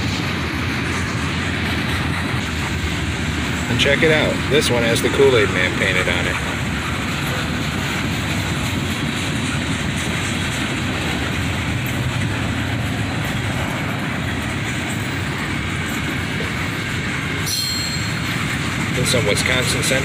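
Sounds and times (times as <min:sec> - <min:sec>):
freight train rolling past: 0:00.0 - 0:20.0
steel wheels clattering on rails: 0:00.0 - 0:20.0.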